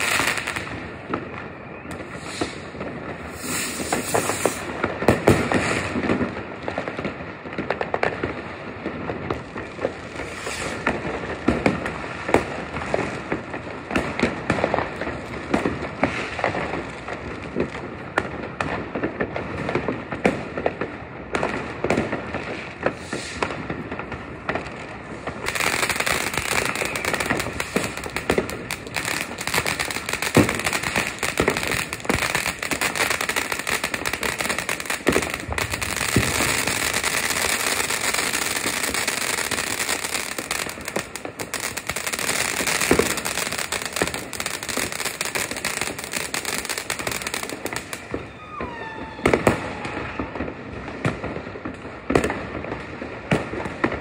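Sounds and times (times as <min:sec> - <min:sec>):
firecrackers crackling: 0:00.0 - 0:54.0
firework bangs: 0:00.0 - 0:54.0.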